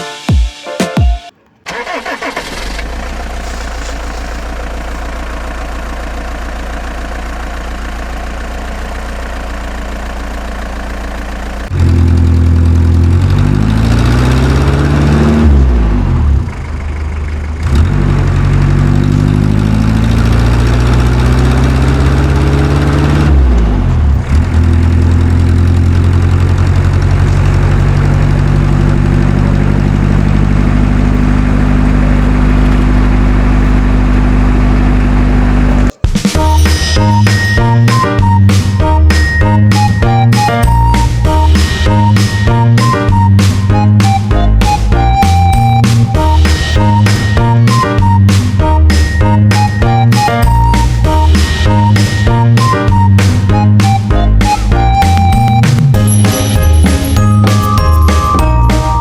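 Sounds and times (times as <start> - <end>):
tractor engine idling and revving: 1.4 - 59.0.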